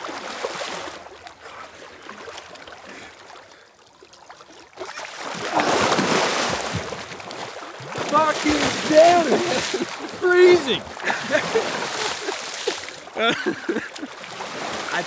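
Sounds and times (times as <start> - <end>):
water splashing: 0.0 - 15.0.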